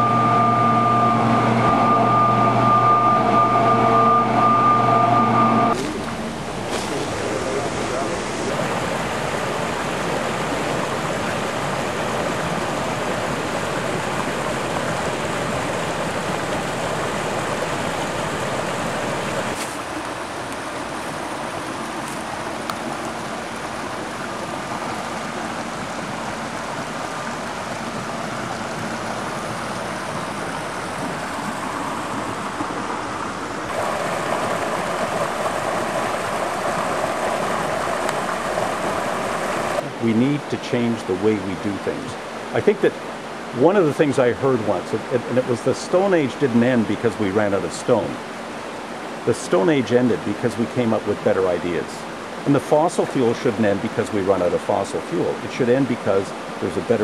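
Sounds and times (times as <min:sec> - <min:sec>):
creek splashing over rocks: 0:05.8 - 0:57.0.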